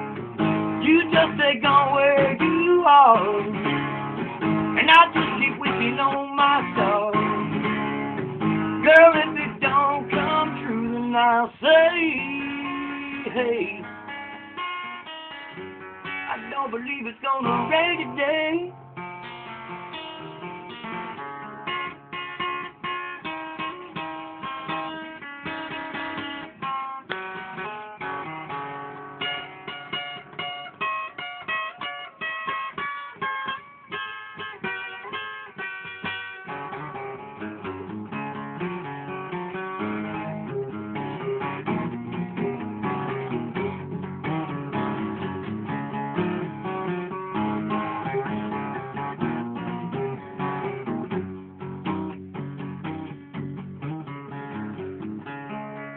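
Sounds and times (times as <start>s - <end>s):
acoustic guitar playing: 0.0s - 55.9s.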